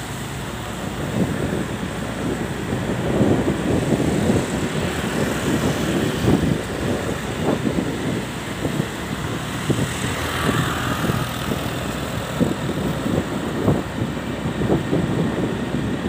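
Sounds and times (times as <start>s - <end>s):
vehicle engine and road noise: 0.0s - 16.0s
wind buffeting microphone: 0.0s - 16.0s.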